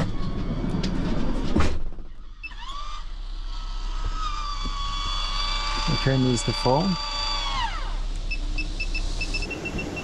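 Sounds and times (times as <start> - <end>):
electric fan motor whine: 0.0 - 10.0
low steady hum: 0.0 - 10.0.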